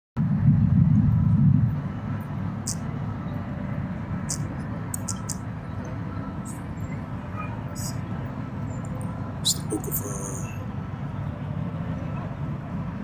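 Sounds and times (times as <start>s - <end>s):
low background rumble: 0.2s - 13.0s.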